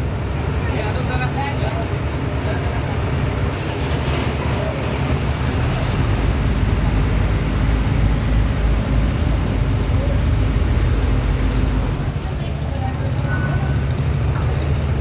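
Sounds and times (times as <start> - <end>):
engine low throbbing rumble: 0.0 - 15.0.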